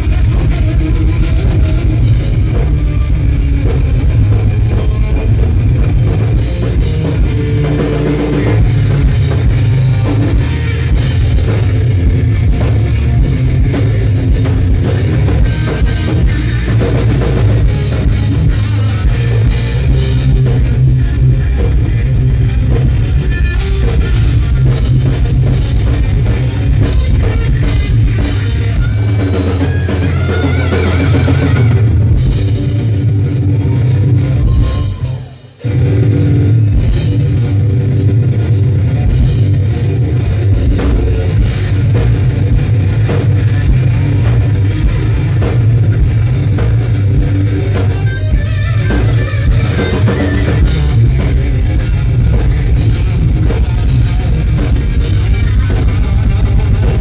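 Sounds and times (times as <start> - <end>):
bass guitar: 0.0 - 57.0
distorted electric guitar: 0.0 - 57.0
pounding drum kit: 0.0 - 57.0.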